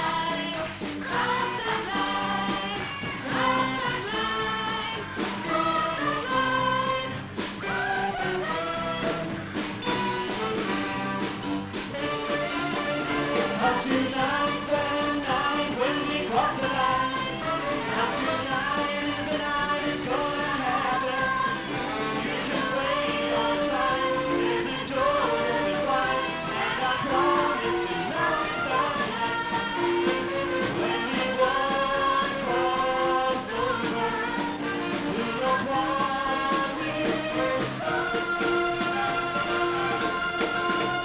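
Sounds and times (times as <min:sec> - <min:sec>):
song with singing and beat: 0:00.0 - 0:41.0.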